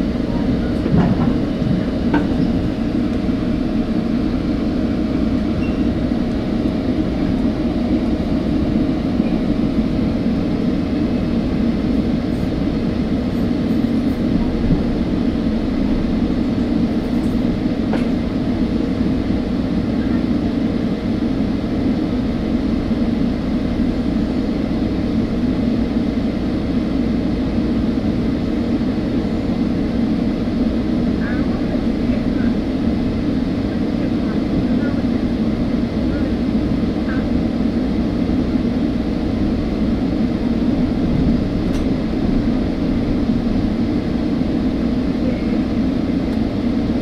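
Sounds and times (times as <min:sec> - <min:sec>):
train rumble from inside: 0:00.0 - 0:47.0.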